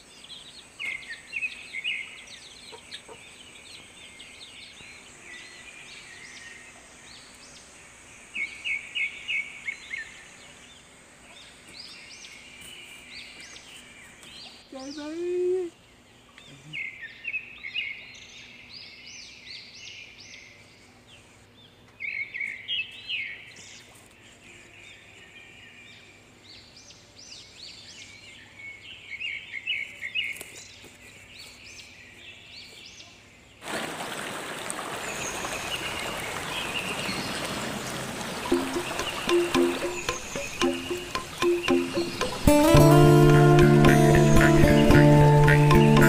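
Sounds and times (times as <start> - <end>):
birds chirping: 0.0 - 33.6, 34.7 - 46.0.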